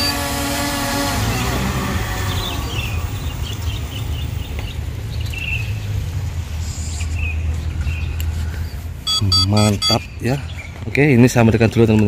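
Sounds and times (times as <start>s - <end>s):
low street rumble: 0.0s - 12.0s
small birds chirping: 1.2s - 11.8s.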